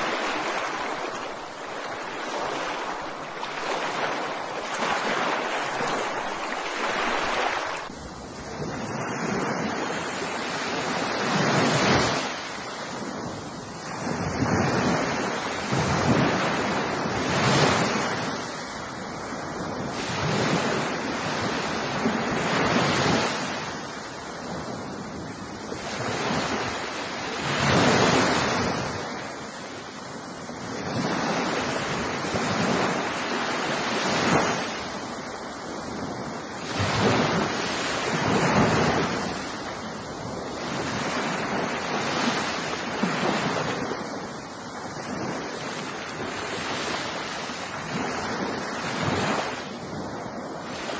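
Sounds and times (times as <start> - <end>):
ocean waves breaking: 0.0 - 50.9.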